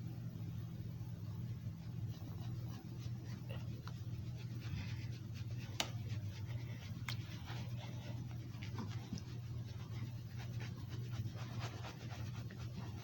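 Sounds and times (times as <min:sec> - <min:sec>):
steady low hum: 0:00.0 - 0:13.0
faint scratchy rustling: 0:01.8 - 0:13.0.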